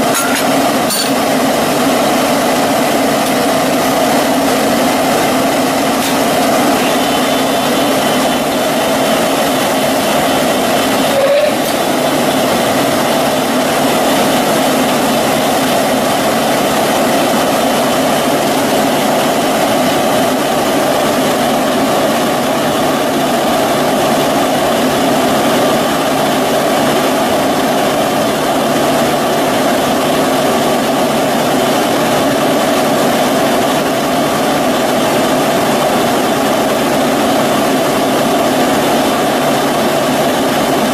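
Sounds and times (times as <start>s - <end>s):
industrial machinery humming: 0.0s - 40.9s.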